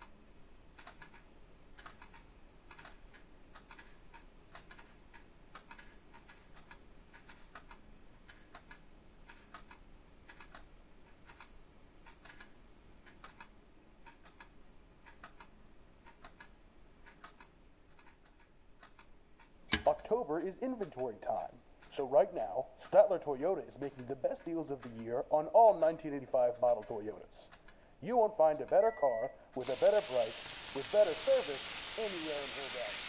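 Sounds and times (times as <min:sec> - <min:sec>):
clocks ticking: 0:00.8 - 0:32.9.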